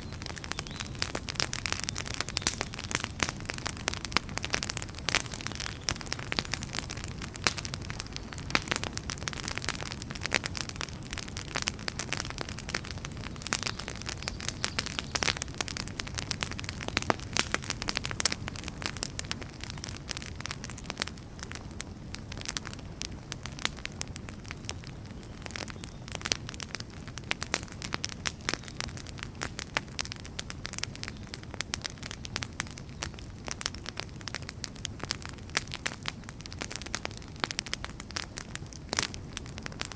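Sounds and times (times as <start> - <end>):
low rumble of burning logs: 0.0 - 39.9
wood fire crackling: 0.0 - 39.9.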